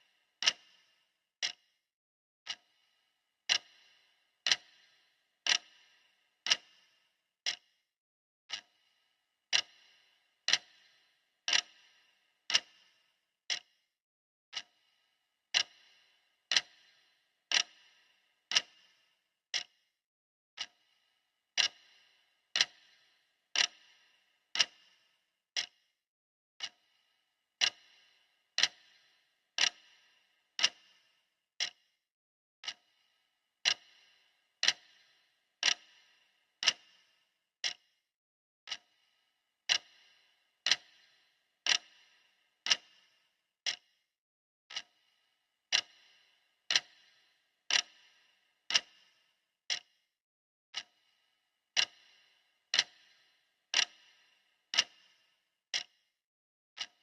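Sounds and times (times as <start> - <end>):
clock ticking: 0.0 - 1.6, 2.5 - 7.7, 8.5 - 8.9, 9.5 - 13.7, 14.5 - 14.9, 15.5 - 19.8, 20.6 - 21.0, 21.6 - 25.8, 26.6 - 27.0, 27.6 - 31.9, 32.6 - 33.0, 33.6 - 37.9, 38.7 - 44.0, 44.7 - 45.1, 45.7 - 50.0, 50.7 - 56.0, 56.8 - 57.0.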